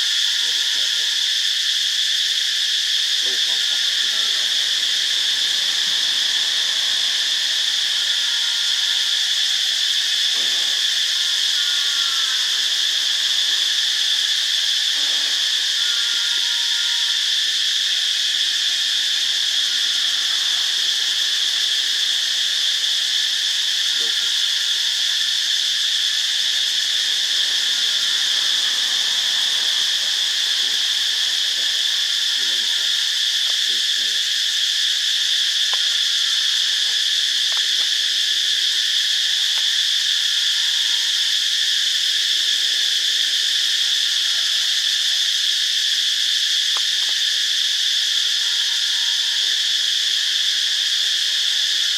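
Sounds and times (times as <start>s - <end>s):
insects droning: 0.0s - 51.9s.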